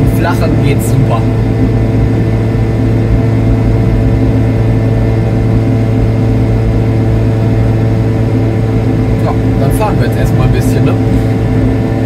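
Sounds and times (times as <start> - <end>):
two-stroke engine droning: 0.0 - 12.0.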